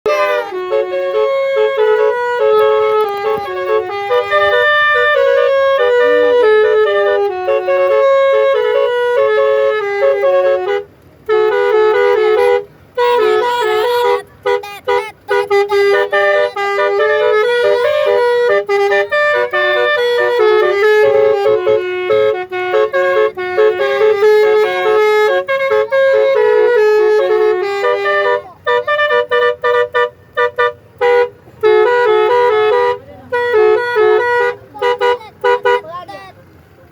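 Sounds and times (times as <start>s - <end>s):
bus horn playing a melody: 0.0s - 36.9s.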